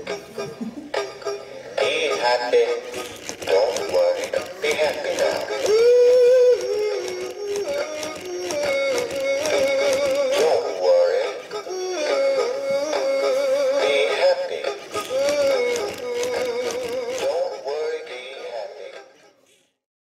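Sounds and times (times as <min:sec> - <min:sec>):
singing fish toy song: 0:01.4 - 0:19.6.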